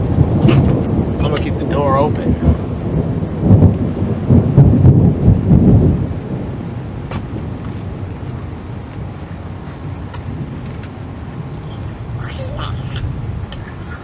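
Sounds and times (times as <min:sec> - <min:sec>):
storm noise hiss: 0:00.0 - 0:14.0
thunder rumbling: 0:00.0 - 0:14.0.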